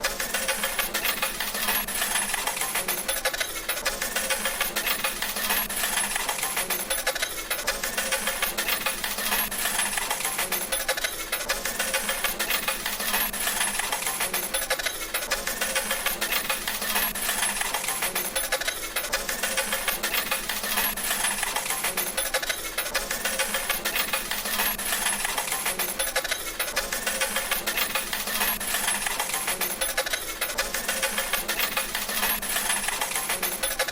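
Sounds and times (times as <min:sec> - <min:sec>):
coins clattering from slot machine: 0:00.0 - 0:33.9.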